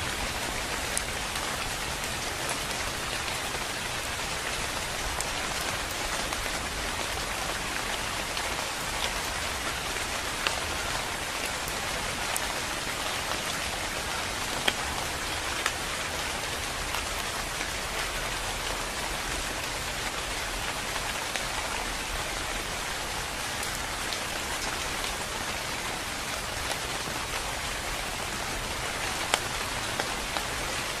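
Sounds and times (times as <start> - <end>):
rain falling on leaves: 0.0 - 31.0.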